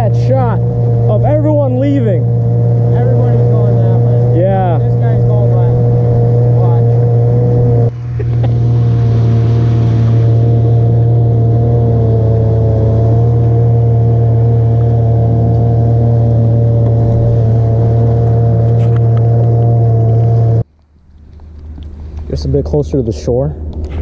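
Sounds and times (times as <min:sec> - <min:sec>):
outboard motor running: 0:00.0 - 0:24.0
water and wind rushing: 0:04.3 - 0:24.0.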